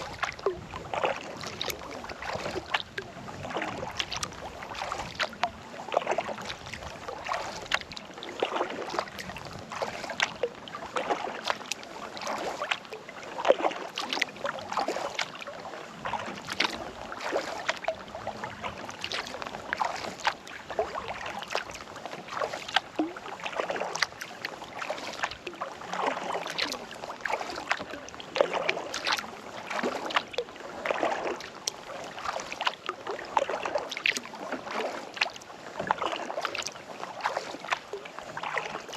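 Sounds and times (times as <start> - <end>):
paddle splashing water: 0.0 - 38.9.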